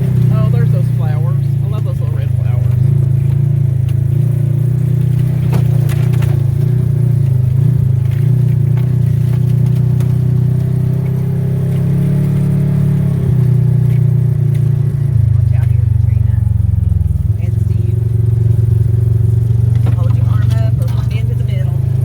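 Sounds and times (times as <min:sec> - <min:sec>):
motor engine running: 0:00.0 - 0:22.0.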